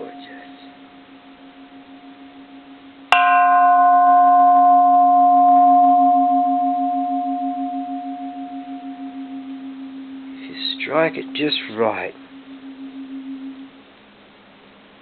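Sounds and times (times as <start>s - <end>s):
temple bell ringing: 0.0s - 13.7s
low wavering hum: 0.0s - 15.0s.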